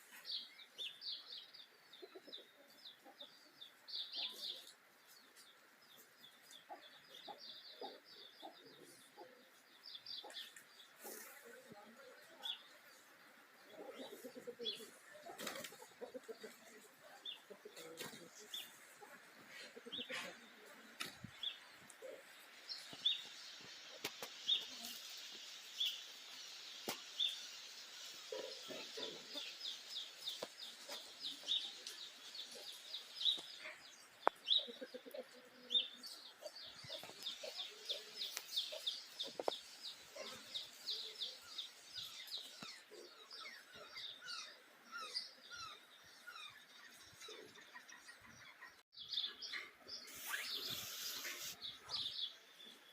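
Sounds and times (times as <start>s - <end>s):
birds chirping: 0.0s - 52.9s
lower clucking bird calls: 0.0s - 52.9s.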